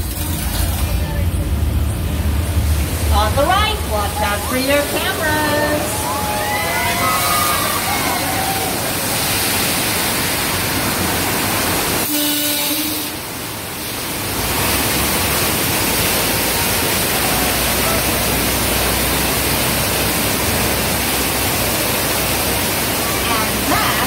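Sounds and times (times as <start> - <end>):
deep rumble of surging water: 0.0 - 24.0
flood water rushing: 0.0 - 24.0.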